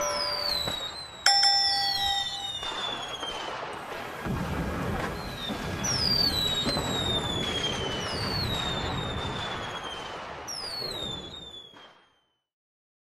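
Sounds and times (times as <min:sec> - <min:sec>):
firework whistles falling in pitch: 0:00.0 - 0:03.8, 0:05.1 - 0:12.4
fireworks crackling: 0:00.0 - 0:12.2.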